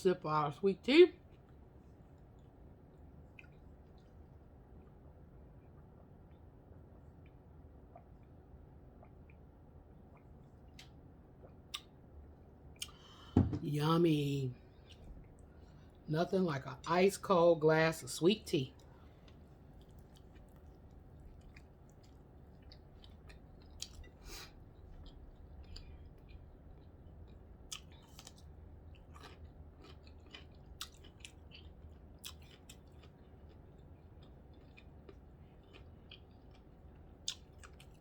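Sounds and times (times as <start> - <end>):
person chewing food: 1.2 - 12.1, 12.8 - 13.2, 18.8 - 38.0.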